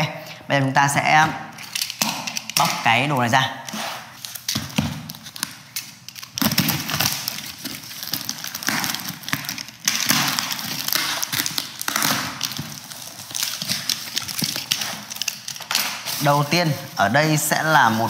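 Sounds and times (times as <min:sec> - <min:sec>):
knife slitting packing tape: 0:01.5 - 0:02.9, 0:03.6 - 0:18.0
tape crackling and tearing: 0:01.5 - 0:18.0.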